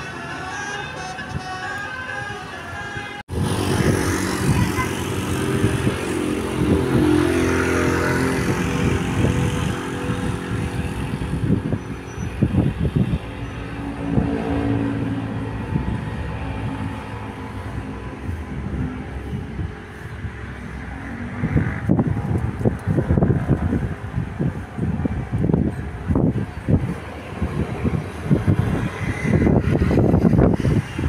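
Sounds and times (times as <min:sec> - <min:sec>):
bus engine running loudly: 0:00.0 - 0:31.0.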